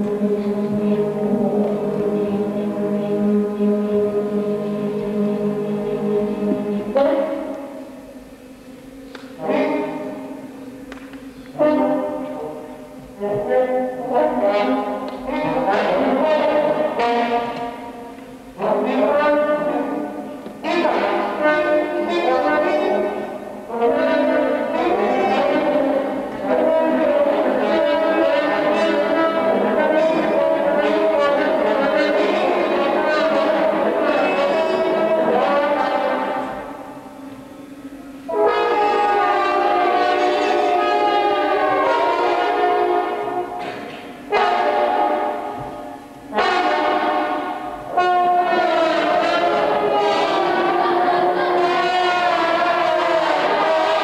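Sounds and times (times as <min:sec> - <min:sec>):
trombone ensemble playing chords: 0:00.0 - 0:54.0.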